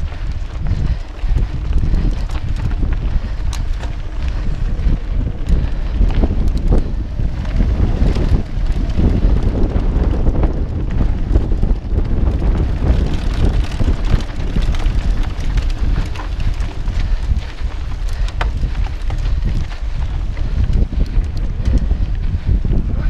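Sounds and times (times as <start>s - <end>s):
bike rattling over stones: 0.0s - 23.0s
tyres crunching on rocky trail: 0.0s - 23.0s
wind buffeting microphone: 0.0s - 23.0s.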